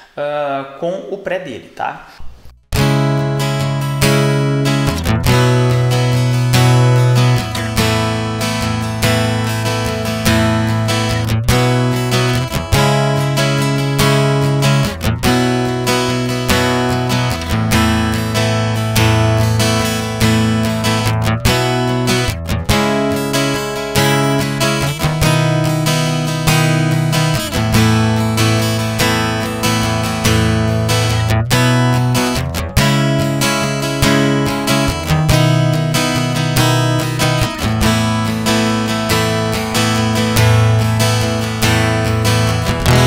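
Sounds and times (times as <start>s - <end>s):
acoustic guitar chords ringing: 2.8s - 43.0s.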